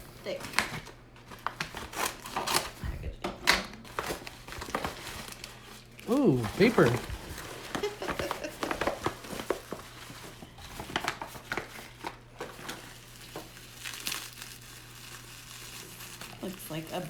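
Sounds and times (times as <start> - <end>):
paper crinkling and rustling: 0.3 - 2.8, 3.4 - 17.0.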